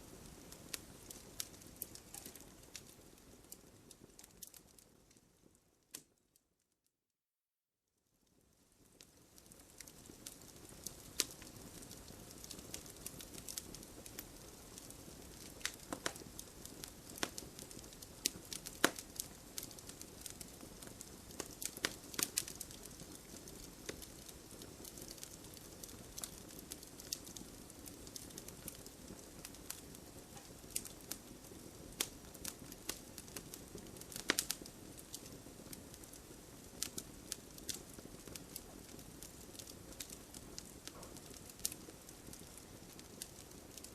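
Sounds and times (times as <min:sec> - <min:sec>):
campfire crackling and hissing: 0:00.0 - 0:06.2, 0:08.3 - 0:43.9.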